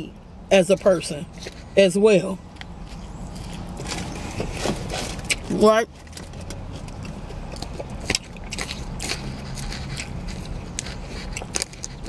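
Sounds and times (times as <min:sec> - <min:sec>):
chewing and crunching salad: 0:00.7 - 0:12.0.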